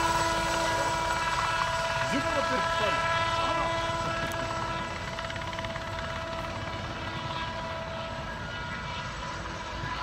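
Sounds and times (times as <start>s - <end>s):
helicopter engine and rotor drone: 0.0s - 10.0s
steady whining tones: 0.0s - 10.0s.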